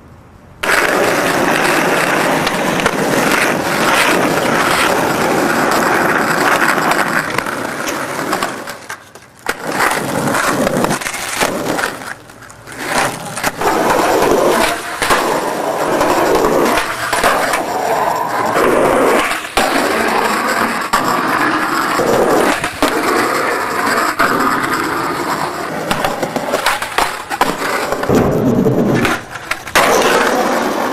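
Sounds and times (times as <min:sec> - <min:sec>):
skateboard wheels rolling on asphalt: 0:00.1 - 0:30.9
skateboard hitting ground: 0:00.6 - 0:30.9.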